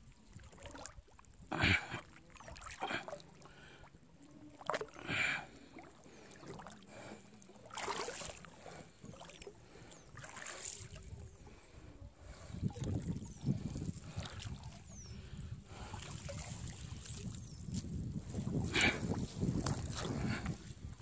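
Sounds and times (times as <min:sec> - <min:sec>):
paddle splashing in river water: 0:00.0 - 0:21.0.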